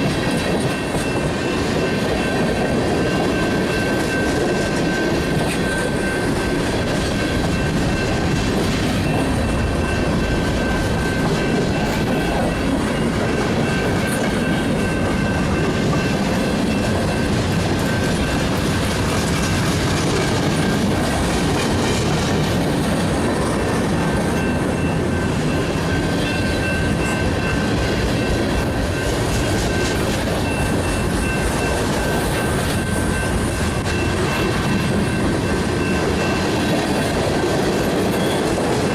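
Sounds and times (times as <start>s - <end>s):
freight train rumbling: 0.0s - 38.9s
wheels ringing on rail: 0.0s - 38.9s.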